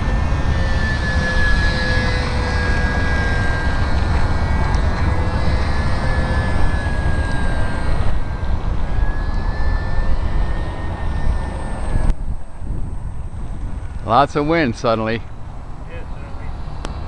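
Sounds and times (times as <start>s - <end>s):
model airplane motor whine: 0.0s - 17.0s
wind buffeting microphone: 0.0s - 17.0s.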